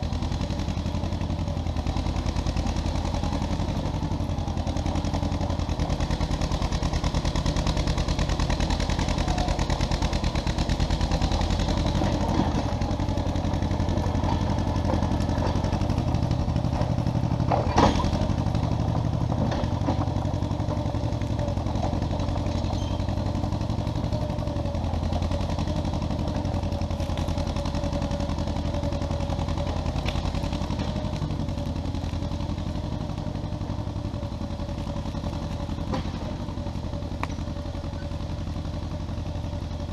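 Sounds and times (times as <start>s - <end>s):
crawler engine running: 0.0s - 39.9s.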